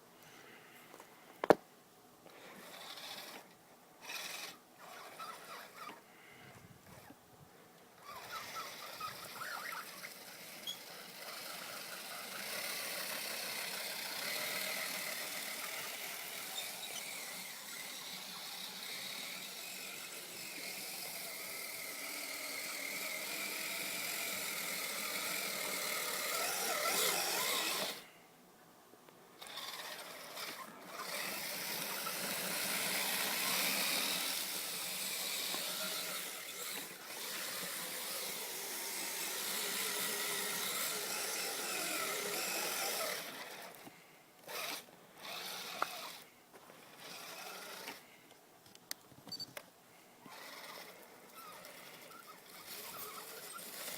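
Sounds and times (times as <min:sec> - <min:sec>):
electric motor whining: 0:02.4 - 0:06.0, 0:08.0 - 0:28.1, 0:29.4 - 0:46.2, 0:46.9 - 0:48.1, 0:50.3 - 0:53.9.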